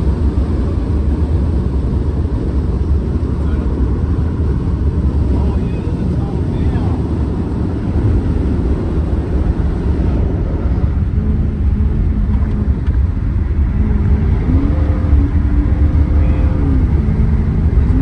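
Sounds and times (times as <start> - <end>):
car exhaust drone: 0.0 - 18.0
wind noise on microphone: 0.0 - 18.0.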